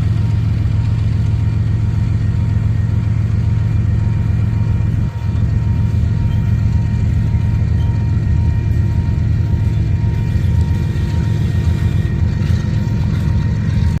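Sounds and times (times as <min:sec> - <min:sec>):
locomotive diesel engines rumbling: 0:00.0 - 0:14.0.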